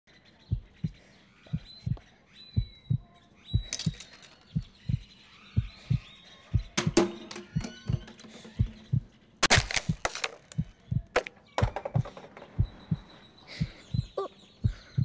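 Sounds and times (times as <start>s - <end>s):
heartbeat thumps: 0.5s - 15.0s.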